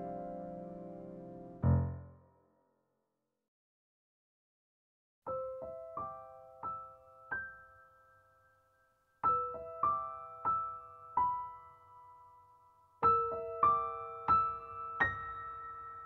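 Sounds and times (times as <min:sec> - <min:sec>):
soft piano music: 0:00.0 - 0:02.3, 0:05.3 - 0:16.0.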